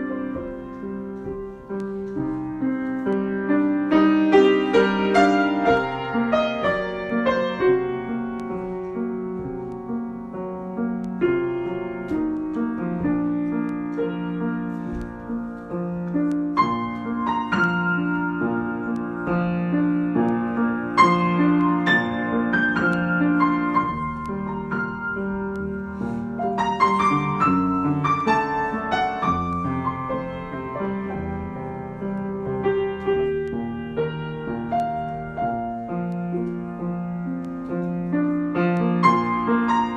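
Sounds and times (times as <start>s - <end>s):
improvised solo piano: 0.0s - 39.9s.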